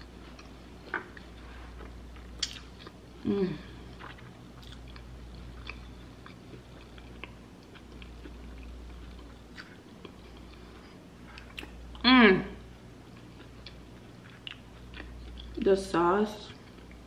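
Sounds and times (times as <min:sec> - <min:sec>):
person chewing crunchy food: 0:00.0 - 0:12.0, 0:13.0 - 0:15.6.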